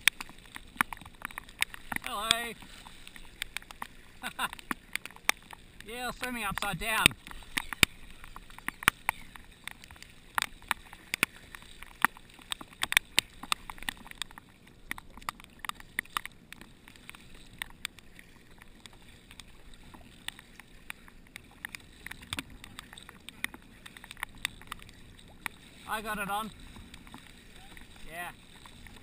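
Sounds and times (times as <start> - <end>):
low steady water wash: 0.0 - 29.0
water dripping off paddle: 0.0 - 29.0
water slapping against hull: 0.0 - 29.0.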